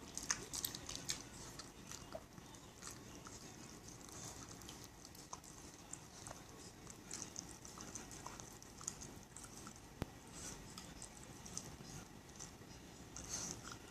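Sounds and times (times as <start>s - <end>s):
dog chewing and smacking: 0.0s - 13.9s.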